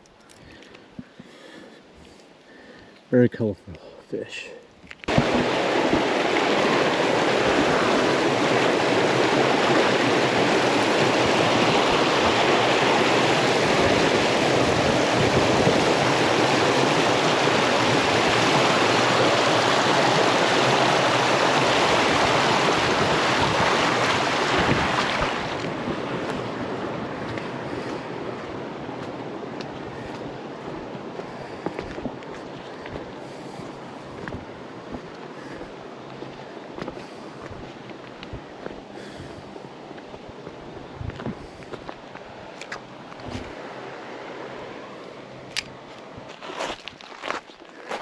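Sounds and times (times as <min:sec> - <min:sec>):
creek water rushing: 0:04.0 - 0:48.0.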